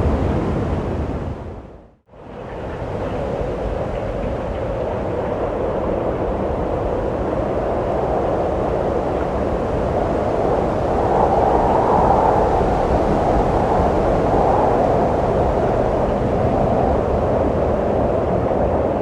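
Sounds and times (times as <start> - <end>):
wind blowing: 0.0 - 19.0.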